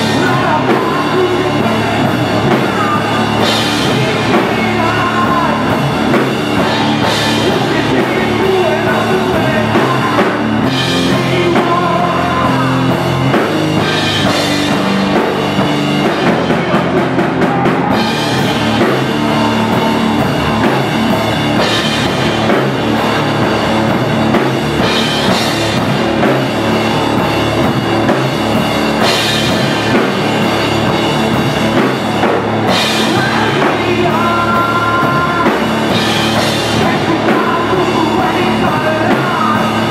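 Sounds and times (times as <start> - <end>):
drum kit with cymbals: 0.0 - 39.9
electric guitar: 0.0 - 39.9.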